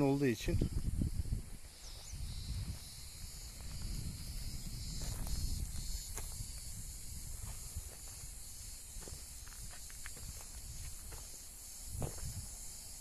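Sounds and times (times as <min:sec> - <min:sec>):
high-pitched insect chorus: 0:00.0 - 0:13.0
wind rumbling on microphone: 0:00.0 - 0:13.0
footsteps on dry ground: 0:01.4 - 0:12.7.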